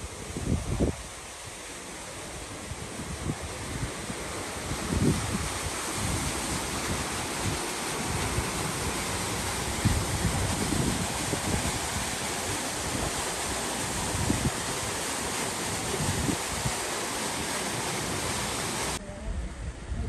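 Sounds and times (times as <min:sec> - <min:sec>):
wind buffeting microphone: 0:00.0 - 0:01.5, 0:02.2 - 0:16.8.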